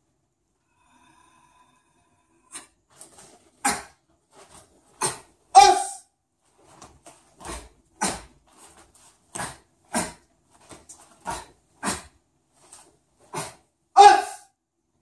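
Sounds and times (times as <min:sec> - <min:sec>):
sharp exhalations: 0:00.7 - 0:05.8, 0:06.6 - 0:14.4.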